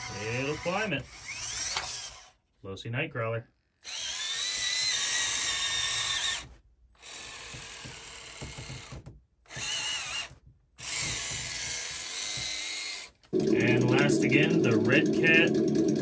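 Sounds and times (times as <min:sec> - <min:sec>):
electric motor and gears whirring: 0:00.0 - 0:02.4, 0:03.8 - 0:16.0.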